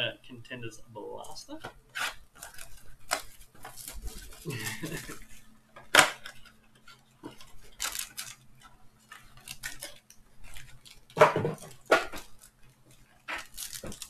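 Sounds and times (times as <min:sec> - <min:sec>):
cardboard and plastic wrap crinkling: 0:01.7 - 0:14.0.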